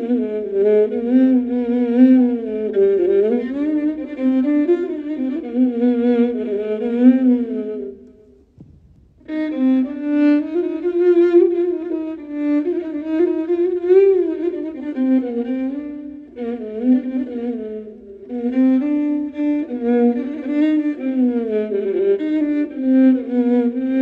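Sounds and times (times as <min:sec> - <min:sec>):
solo violin melody: 0:00.0 - 0:24.0.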